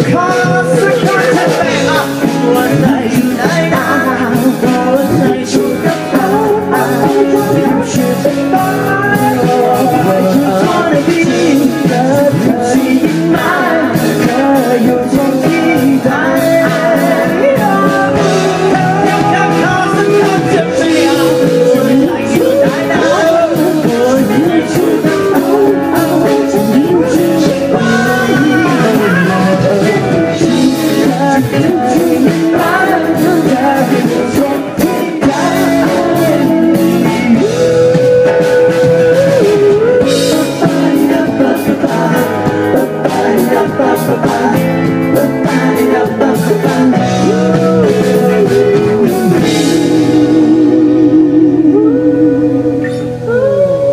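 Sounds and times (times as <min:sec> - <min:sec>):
acoustic guitar: 0:00.0 - 0:53.9
drums: 0:00.0 - 0:53.9
keyboard: 0:00.0 - 0:53.9
person singing lead vocals: 0:00.0 - 0:53.9.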